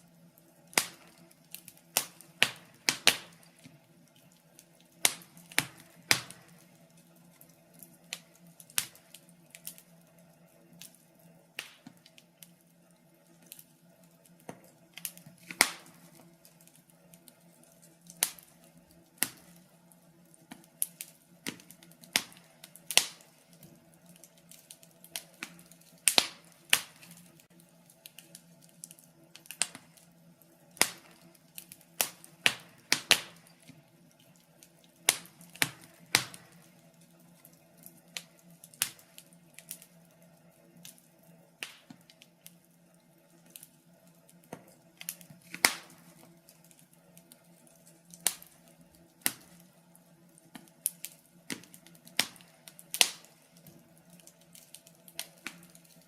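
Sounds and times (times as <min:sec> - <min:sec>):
logs crackling in a fireplace: 0:00.0 - 0:56.0.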